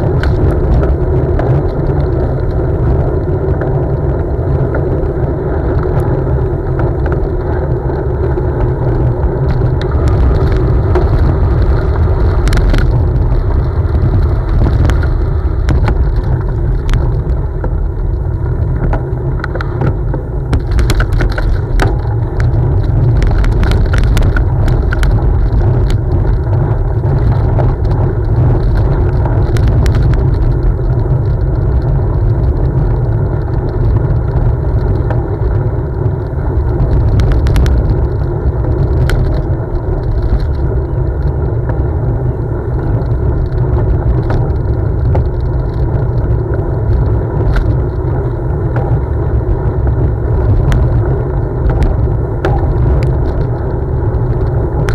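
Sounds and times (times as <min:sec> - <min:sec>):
bicycle tyres rumbling on gravel: 0:00.0 - 0:54.9
stones and bike rattling: 0:00.0 - 0:54.9
wind on microphone: 0:00.0 - 0:54.9.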